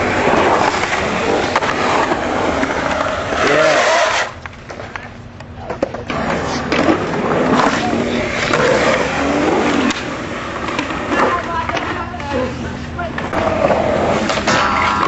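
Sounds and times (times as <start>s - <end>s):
skateboard clacks: 0.0s - 15.0s
skateboard wheels rolling on concrete: 0.0s - 15.0s.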